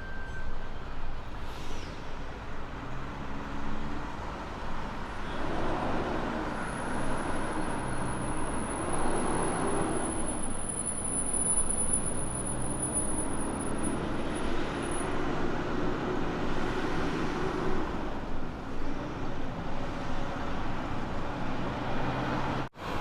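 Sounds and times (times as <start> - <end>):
tyre and road noise: 0.0 - 23.0.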